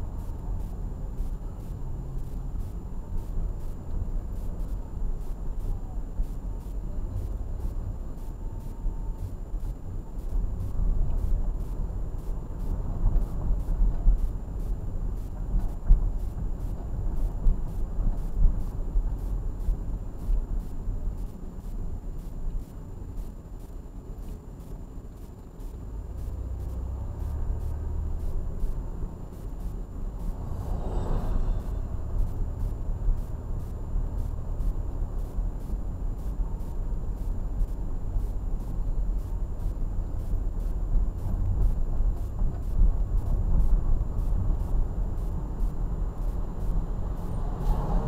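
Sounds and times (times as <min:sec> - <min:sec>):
car engine and road rumble: 0:00.0 - 0:48.0
faint regular ticks: 0:00.1 - 0:30.8, 0:31.6 - 0:48.0.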